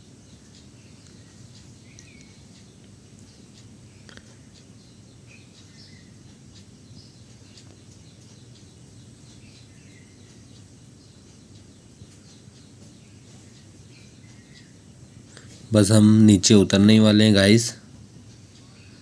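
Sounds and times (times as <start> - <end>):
faint bird chirps: 0.0 - 19.0
steady low hum: 0.0 - 19.0.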